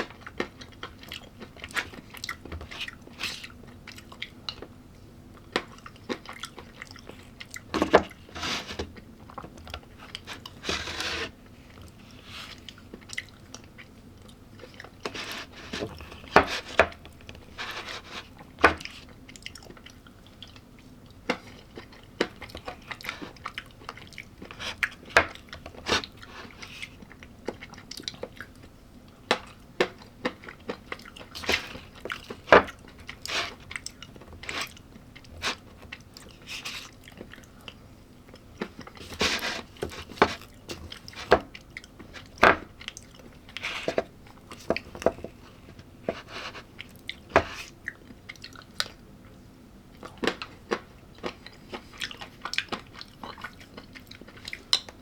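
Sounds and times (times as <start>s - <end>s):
chewing crunchy food: 0.0s - 55.0s.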